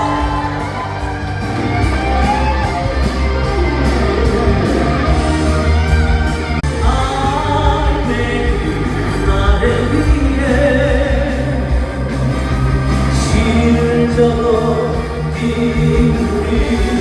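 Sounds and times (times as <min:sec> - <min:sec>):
rock pop song with singing: 0:00.0 - 0:17.0.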